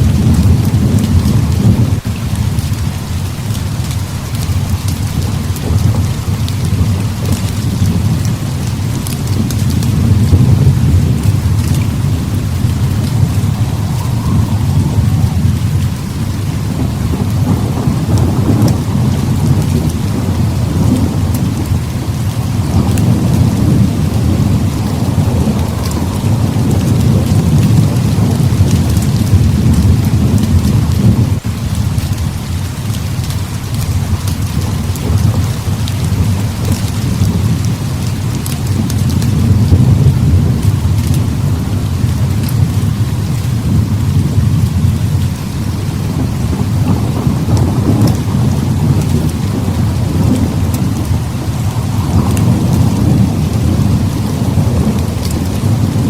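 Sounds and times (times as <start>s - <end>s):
heavy rain: 0.0s - 56.0s
rolling thunder: 0.0s - 56.0s.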